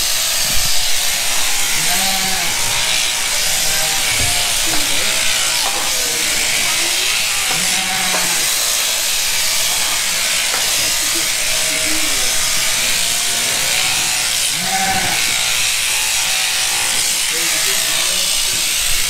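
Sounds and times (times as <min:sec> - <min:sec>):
electric shears running: 0:00.0 - 0:19.0
sheep bleating: 0:01.1 - 0:18.4.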